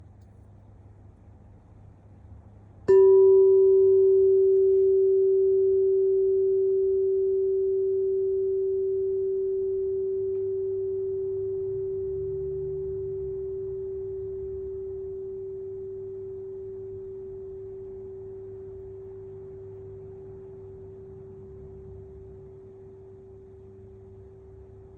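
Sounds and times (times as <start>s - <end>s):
struck metal tone ringing: 2.9s - 24.9s.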